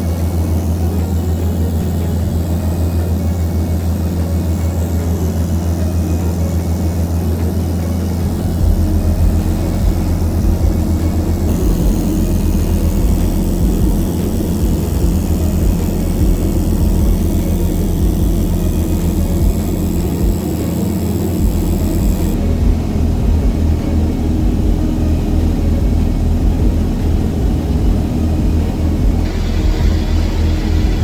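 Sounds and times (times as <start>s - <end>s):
light aircraft engine droning: 0.0s - 31.0s.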